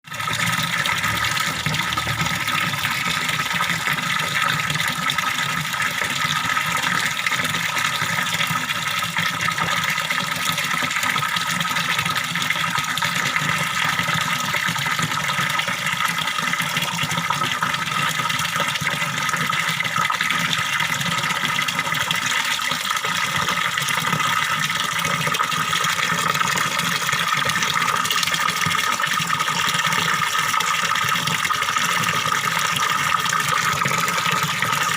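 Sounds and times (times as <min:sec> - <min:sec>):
water splashing and gurgling: 0:00.1 - 0:34.9.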